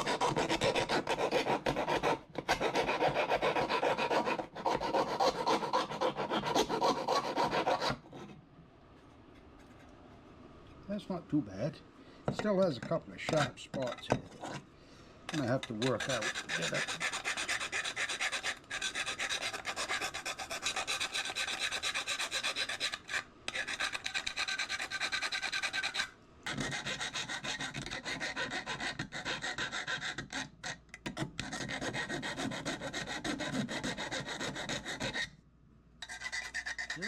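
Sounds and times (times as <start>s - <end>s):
hand file rasping metal: 0.0s - 8.3s, 12.3s - 14.6s, 15.3s - 35.3s, 36.0s - 37.0s.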